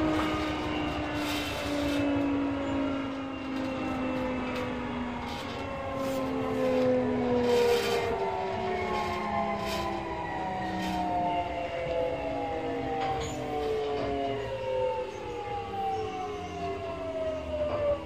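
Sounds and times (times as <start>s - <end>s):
electric train motors whining: 0.0s - 18.0s.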